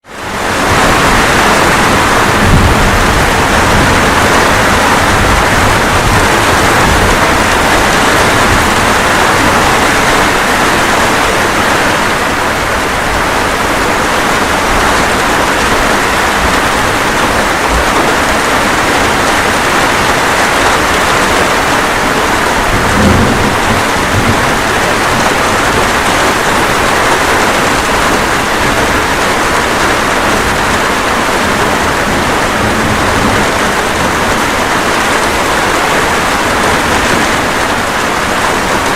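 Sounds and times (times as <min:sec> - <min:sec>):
steady rain falling: 0:00.0 - 0:38.9
low thunder rumbles: 0:00.4 - 0:38.9.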